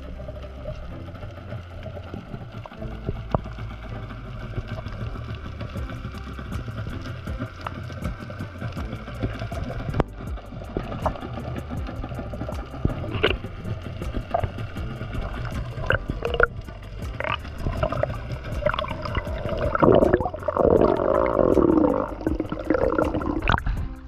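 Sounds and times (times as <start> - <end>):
underwater low hum: 0.0 - 24.0
sharp clicks underwater: 0.2 - 3.7, 4.4 - 23.8.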